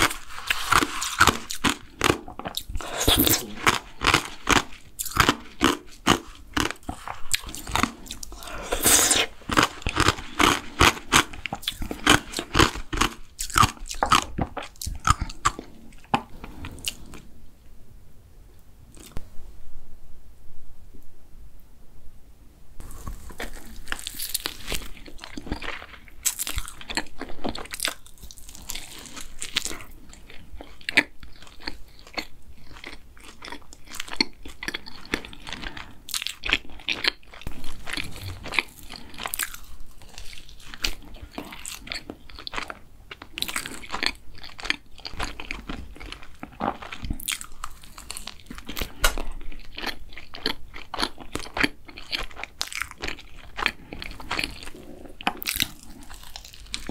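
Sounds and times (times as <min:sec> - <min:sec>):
biting and chewing doughnut: 0:00.0 - 0:17.2, 0:22.8 - 0:56.9.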